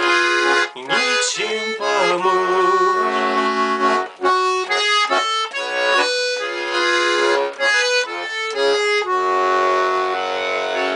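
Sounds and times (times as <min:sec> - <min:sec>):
button accordion playing: 0:00.0 - 0:10.9.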